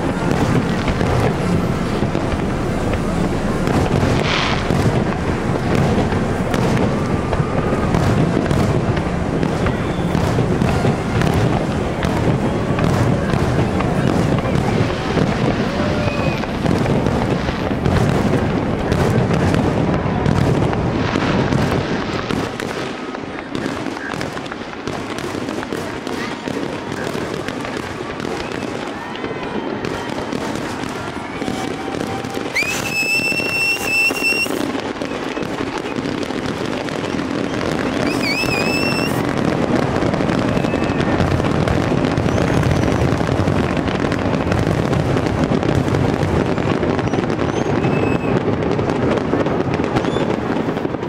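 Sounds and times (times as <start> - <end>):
high firework whistles: 0.0 - 19.4, 20.3 - 45.0, 46.4 - 48.8, 49.8 - 50.9
fireworks booms and crackling: 0.0 - 51.0.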